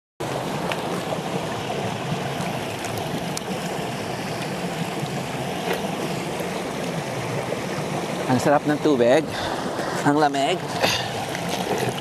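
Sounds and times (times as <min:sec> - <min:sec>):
creek water rushing over rocks: 0:00.2 - 0:12.0
small water splashes: 0:00.2 - 0:12.0.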